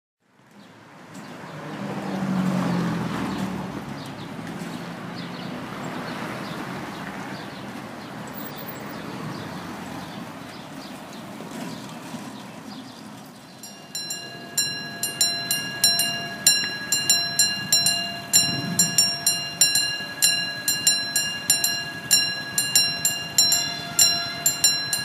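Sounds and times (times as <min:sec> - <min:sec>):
traffic hum: 0:00.3 - 0:25.0
vehicle engine passing close: 0:01.4 - 0:10.3, 0:13.7 - 0:25.0.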